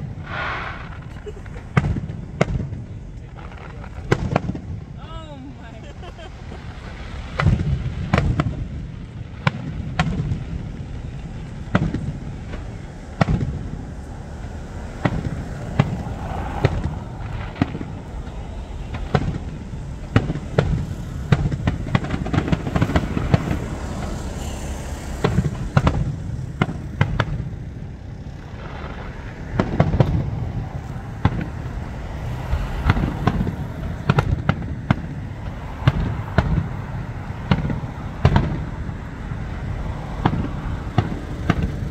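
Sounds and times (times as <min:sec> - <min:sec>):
rumble of echoing booms: 0:00.0 - 0:24.2, 0:25.0 - 0:41.9
firework bangs: 0:00.0 - 0:41.9.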